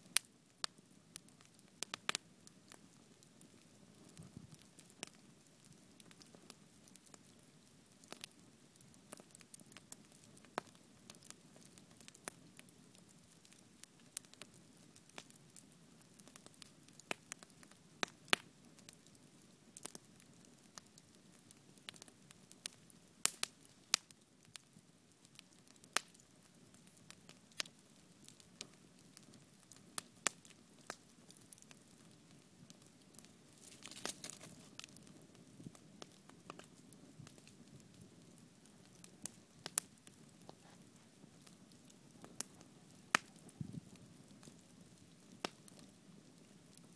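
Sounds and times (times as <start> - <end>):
bonfire crackling and popping: 0.0 - 46.9.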